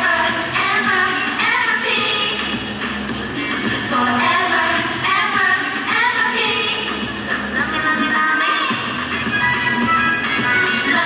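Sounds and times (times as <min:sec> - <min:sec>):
women singing: 0:00.0 - 0:08.9, 0:10.4 - 0:11.0
pop backing track: 0:00.0 - 0:11.0.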